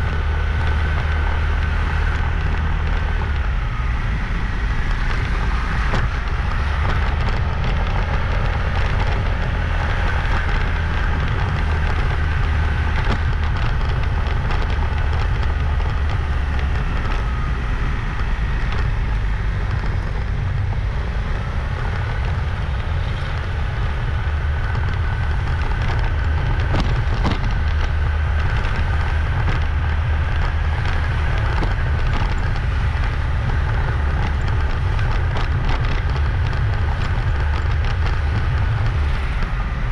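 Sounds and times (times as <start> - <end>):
faint engine whine: 0.0 - 39.9
road noise: 0.0 - 39.9
wind buffeting microphone: 0.0 - 39.9.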